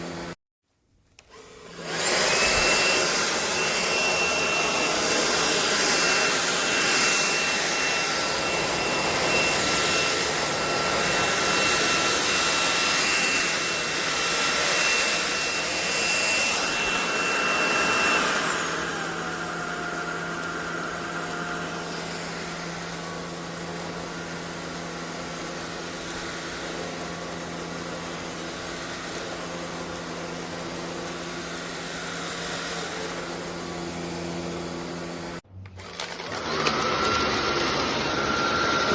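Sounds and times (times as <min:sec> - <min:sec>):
stick vacuum running: 0:01.2 - 0:38.9.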